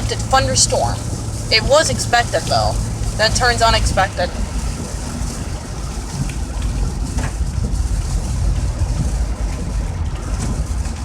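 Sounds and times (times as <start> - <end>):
rain hiss: 0.0 - 10.3
road rumble: 0.0 - 11.0.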